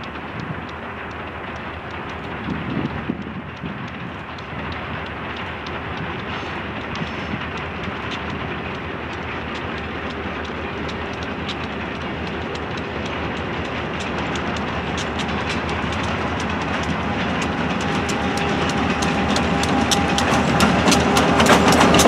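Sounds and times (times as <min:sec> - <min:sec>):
diesel locomotive rumble: 0:00.0 - 0:22.0
wheels clicking over rail joints: 0:00.0 - 0:22.0.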